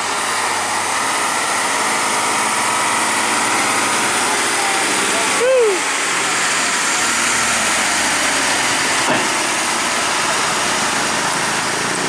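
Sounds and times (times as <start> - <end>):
truck diesel engine pulling uphill: 0.0 - 12.0.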